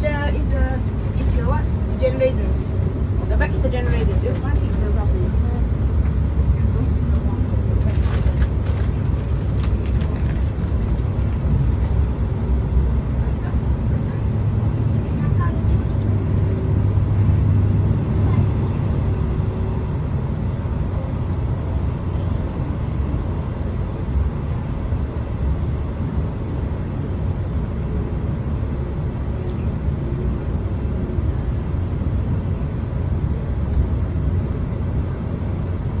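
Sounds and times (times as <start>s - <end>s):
train rumbling along track: 0.0s - 36.0s.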